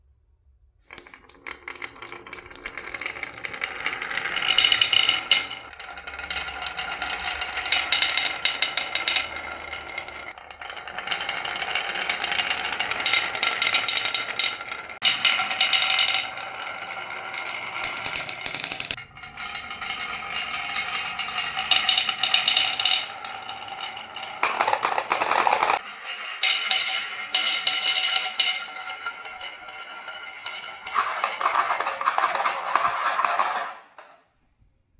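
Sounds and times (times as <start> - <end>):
marbles rattling down plastic run: 0.9 - 34.0.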